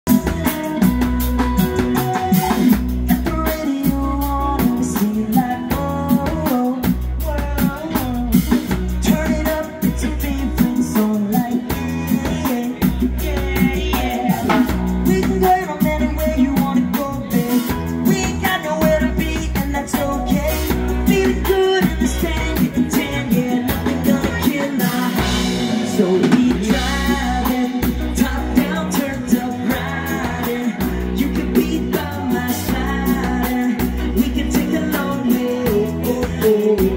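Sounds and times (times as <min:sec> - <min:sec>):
drum kit beat: 0:00.0 - 0:36.9
person singing lead vocals: 0:00.0 - 0:36.9
electric guitars: 0:00.1 - 0:36.9.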